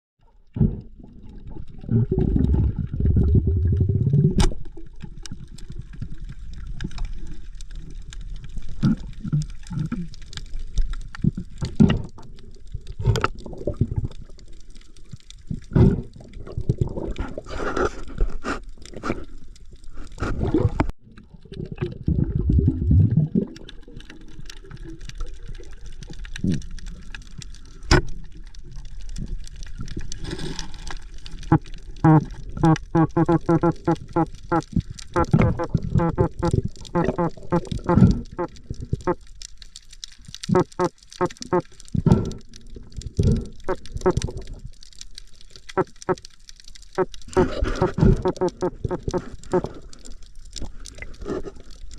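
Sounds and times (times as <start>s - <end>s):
underwater gurgling and bubbling: 0.3s - 51.9s.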